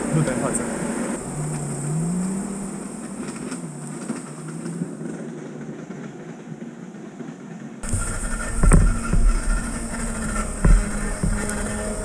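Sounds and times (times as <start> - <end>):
buggy engine running: 0.0 - 6.1, 7.8 - 12.0.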